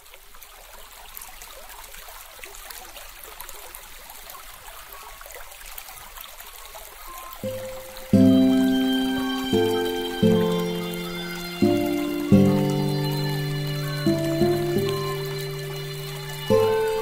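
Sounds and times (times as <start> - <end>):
aquarium water trickling: 0.0 - 17.0
fizz of tiny crackles: 0.0 - 17.0.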